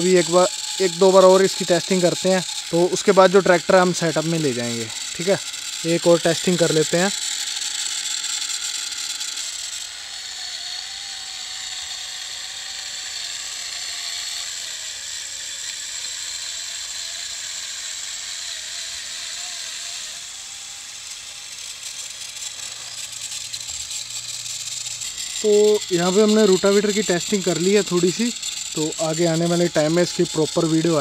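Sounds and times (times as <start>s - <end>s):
small electric motors whirring: 0.0s - 31.0s.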